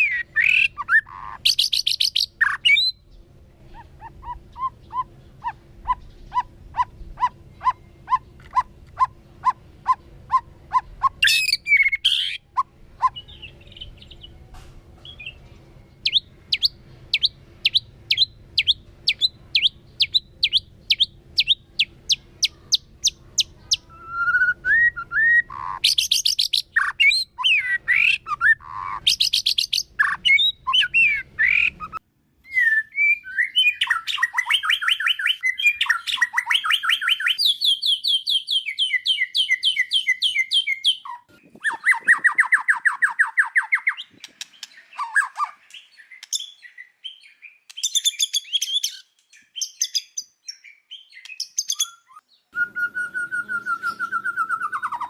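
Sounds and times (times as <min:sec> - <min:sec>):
bird singing with trills: 0:00.0 - 0:55.0.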